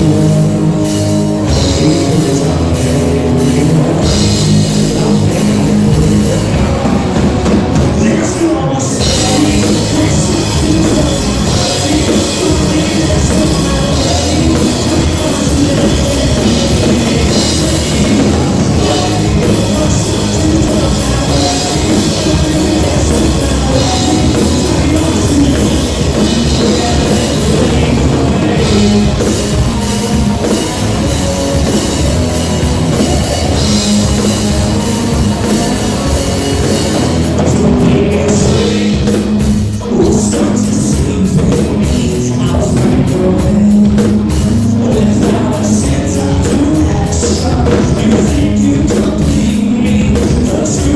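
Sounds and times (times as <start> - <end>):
drum kit: 0.0 - 50.9
loud rock band playing: 0.0 - 50.9.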